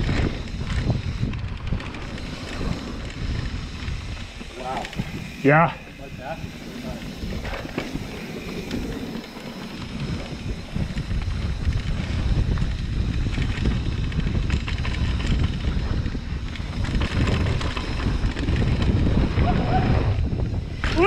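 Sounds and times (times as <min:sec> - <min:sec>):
bike clicks and rattles: 0:00.0 - 0:21.0
bike tyres rolling on dirt: 0:00.0 - 0:21.0
wind buffeting microphone: 0:00.0 - 0:21.0.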